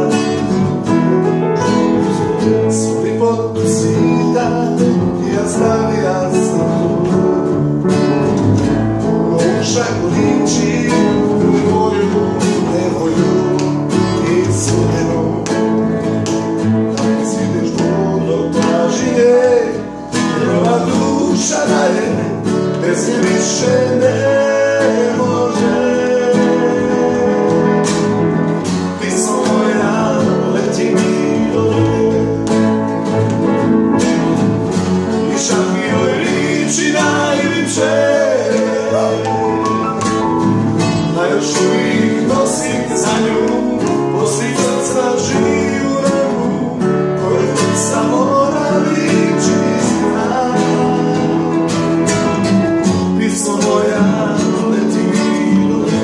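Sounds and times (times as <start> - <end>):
acoustic guitar strummed: 0.0 - 56.0
double bass: 0.0 - 56.0
man singing: 0.0 - 56.0
upright piano: 0.0 - 56.0.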